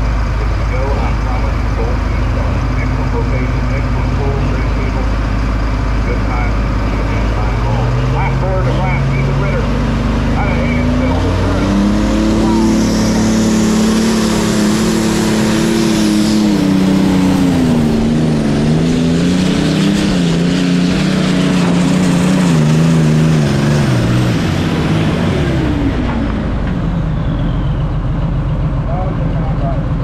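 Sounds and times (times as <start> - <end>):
tractor engine running hard: 0.0 - 30.0.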